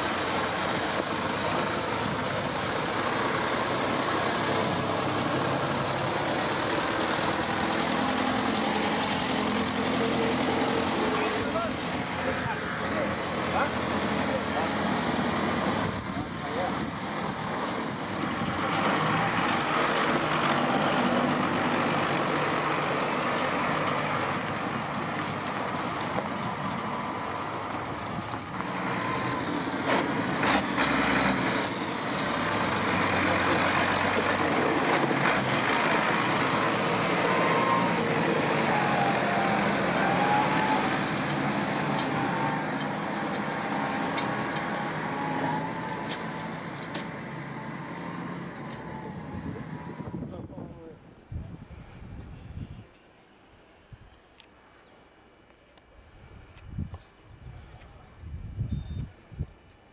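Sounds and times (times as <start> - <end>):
tractors driving past: 0.0 - 51.0.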